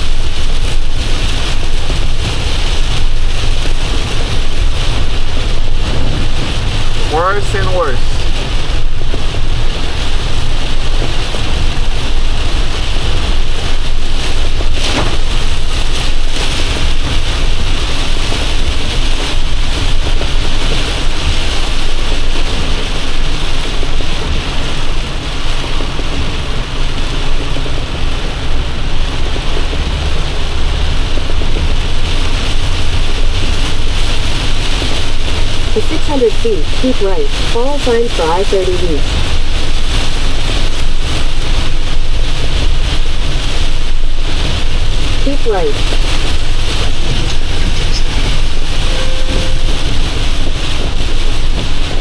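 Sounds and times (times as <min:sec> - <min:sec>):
heavy rain on truck cab: 0:00.0 - 0:52.0
low truck engine rumble: 0:00.0 - 0:52.0.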